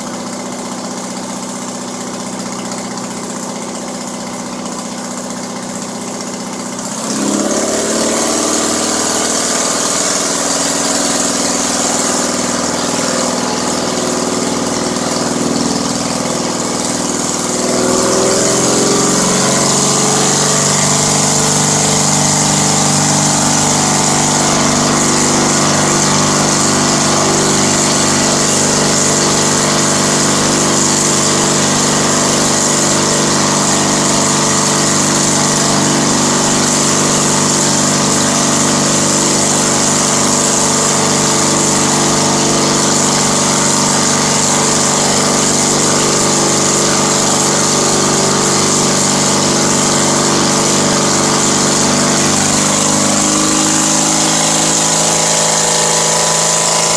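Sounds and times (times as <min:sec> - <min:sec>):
ultralight aircraft engine running: 0:00.0 - 0:56.9.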